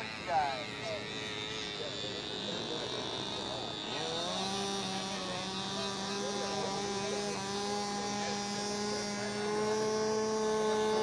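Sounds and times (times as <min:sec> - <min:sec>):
model engines buzzing: 0:00.0 - 0:11.0.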